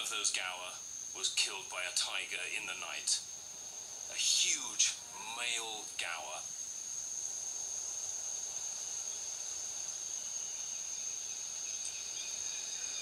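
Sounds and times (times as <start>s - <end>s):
high-pitched insect drone: 0.0s - 13.0s
lower insect tone: 0.0s - 13.0s.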